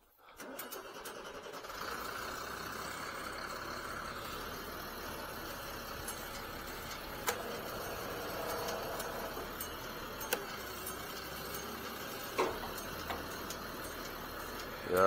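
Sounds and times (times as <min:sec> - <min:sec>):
crane engine running: 0:00.4 - 0:15.0.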